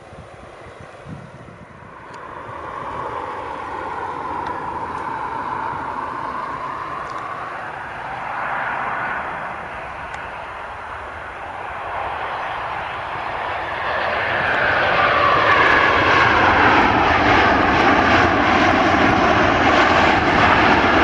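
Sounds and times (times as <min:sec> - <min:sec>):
jet engines whooshing: 0:00.0 - 0:21.0.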